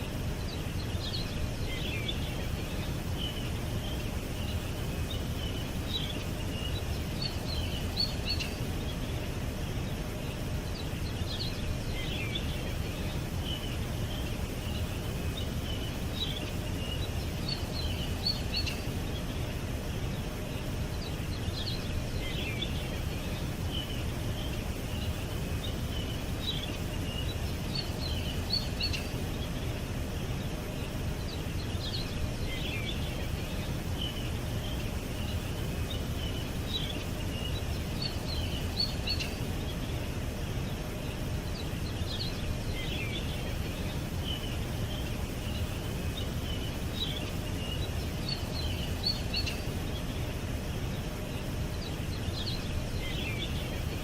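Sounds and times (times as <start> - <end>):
low background noise: 0.0 - 54.0
small birds chirping: 0.0 - 54.0.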